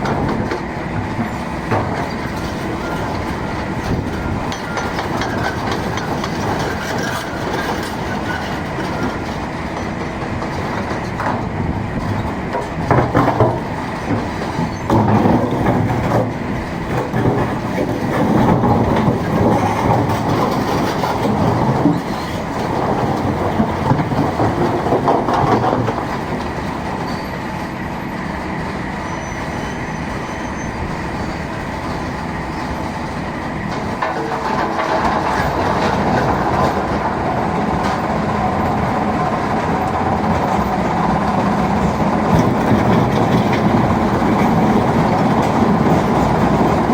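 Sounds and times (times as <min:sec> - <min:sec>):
excavator and stone crusher running: 0:00.0 - 0:46.9.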